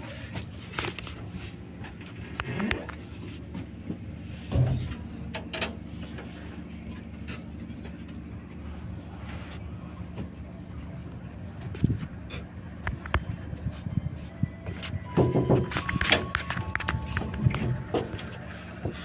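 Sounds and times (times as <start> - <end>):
diesel train idling hum: 0.0 - 19.0.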